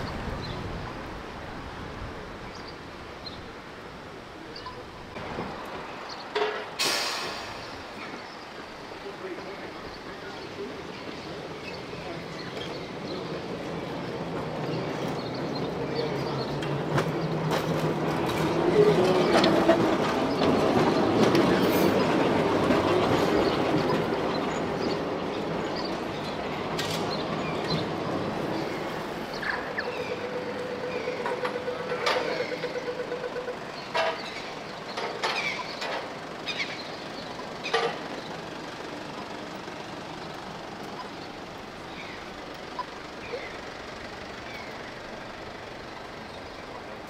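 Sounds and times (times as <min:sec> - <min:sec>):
tram running on rails: 0:00.0 - 0:47.0.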